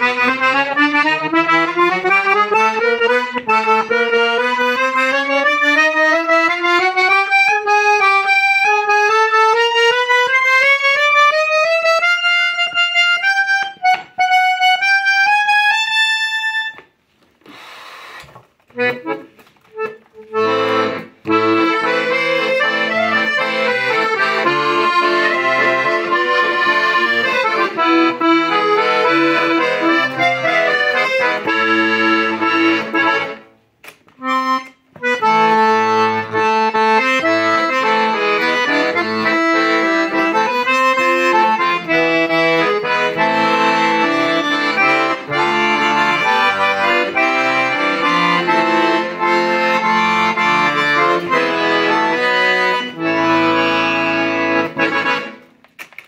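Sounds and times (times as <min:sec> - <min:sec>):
accordion treble notes: 0:00.0 - 0:55.6
accordion bass and chords: 0:00.0 - 0:55.8.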